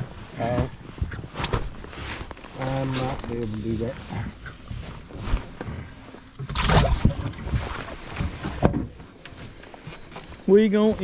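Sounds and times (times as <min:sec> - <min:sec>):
knocks and clatter in a boat: 0:00.0 - 0:03.2, 0:03.9 - 0:11.0.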